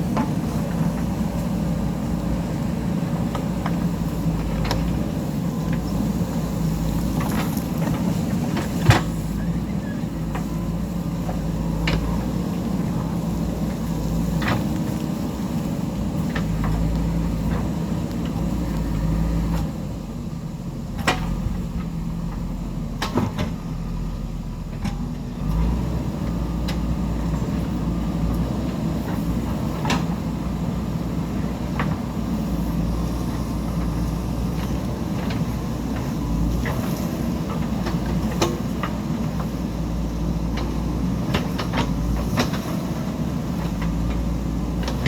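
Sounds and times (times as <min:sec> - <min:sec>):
diesel engine under load: 0:00.0 - 0:45.0.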